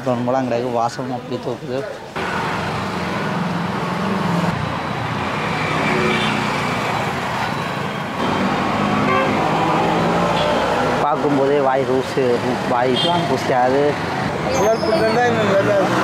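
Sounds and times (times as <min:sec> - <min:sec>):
vehicle engines passing: 0:02.1 - 0:16.0.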